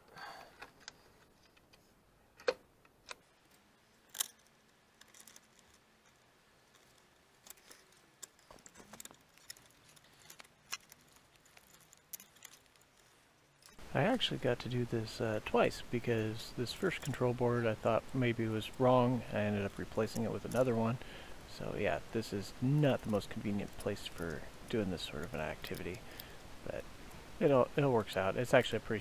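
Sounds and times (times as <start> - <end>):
cables rustling: 3.0 - 29.0.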